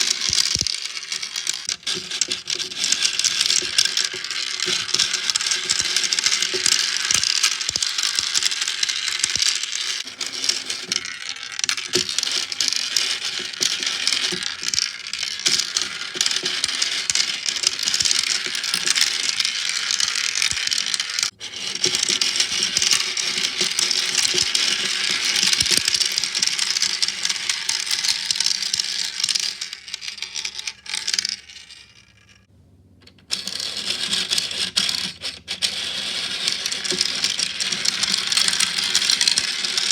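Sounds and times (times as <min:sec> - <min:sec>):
small balls clattering through plastic run: 0:00.0 - 0:39.9.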